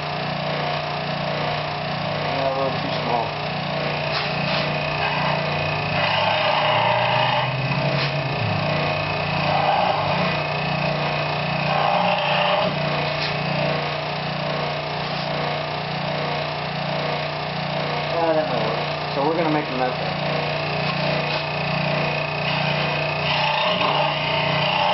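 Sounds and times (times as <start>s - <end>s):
power saw motor hum: 0.0s - 24.9s
saw cutting wood: 0.0s - 24.9s.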